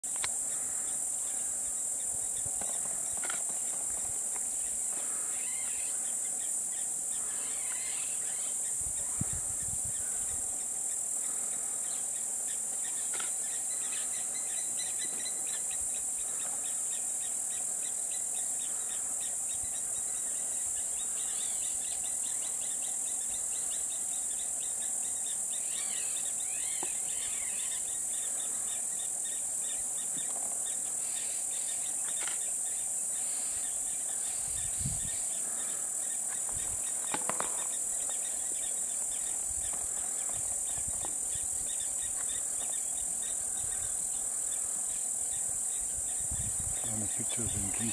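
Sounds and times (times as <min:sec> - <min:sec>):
insect chorus: 0:00.0 - 0:47.9
bird calls: 0:00.4 - 0:47.9.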